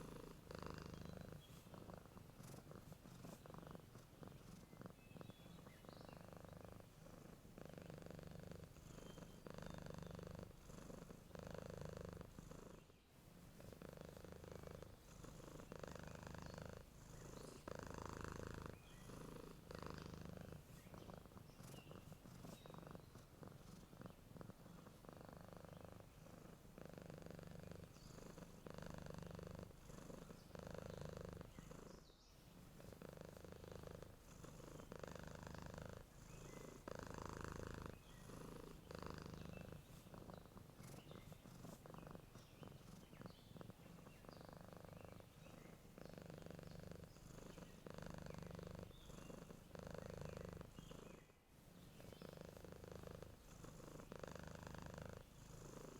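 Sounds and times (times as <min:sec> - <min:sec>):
cat purring softly: 0:00.0 - 0:55.9
faint bird chirps: 0:00.0 - 0:55.9.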